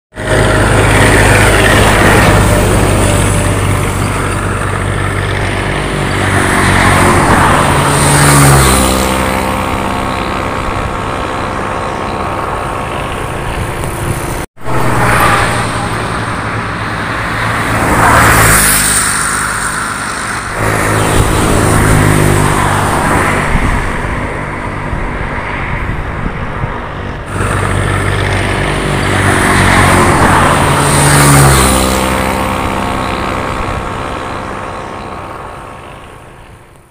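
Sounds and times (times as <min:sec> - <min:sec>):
road and wind noise: 0:00.1 - 0:36.9.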